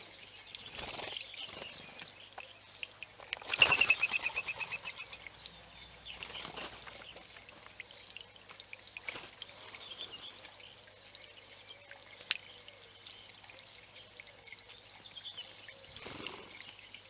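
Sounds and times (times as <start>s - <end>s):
running water rushing: 0.0s - 17.0s
small birds chirping: 0.0s - 17.0s.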